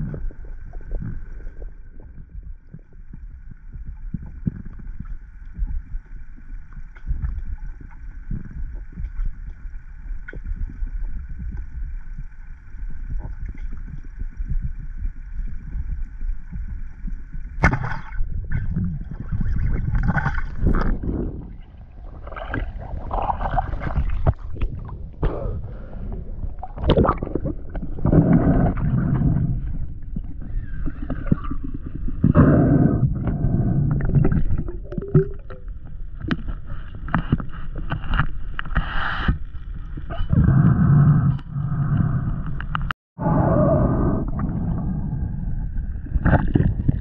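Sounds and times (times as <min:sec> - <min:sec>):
underwater gurgling: 0:00.0 - 0:47.0.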